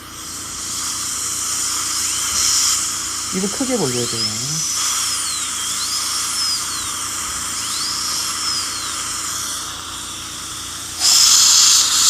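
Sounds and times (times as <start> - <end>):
dentist's drill whining: 0.0 - 12.0
spray hiss: 0.0 - 12.0.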